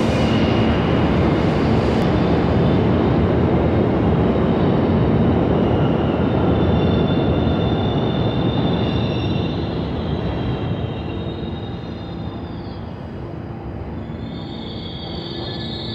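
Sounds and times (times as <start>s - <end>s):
subway train wheels rumbling: 0.0s - 15.9s.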